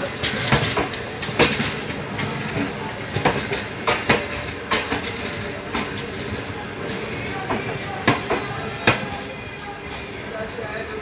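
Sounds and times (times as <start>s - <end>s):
wheels clacking over rail joints: 0.0s - 9.4s
train coach rumble: 0.0s - 11.0s.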